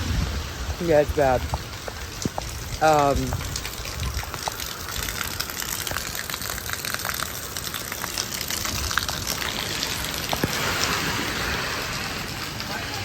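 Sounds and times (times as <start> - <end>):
heavy rain falling: 0.0 - 13.0
raindrops tapping: 0.0 - 13.0.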